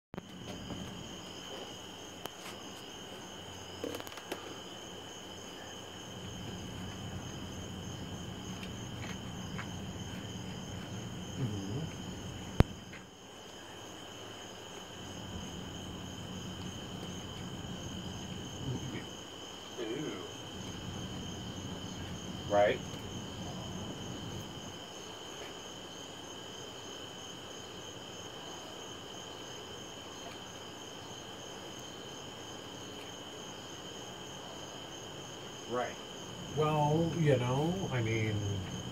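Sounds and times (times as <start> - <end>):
crickets chirring: 0.2 - 38.9.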